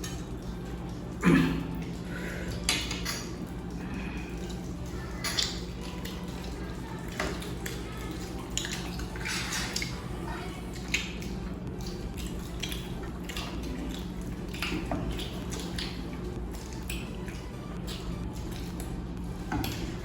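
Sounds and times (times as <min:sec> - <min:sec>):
steady low hum: 0:00.0 - 0:20.0
wet chewing and smacking: 0:00.0 - 0:20.0.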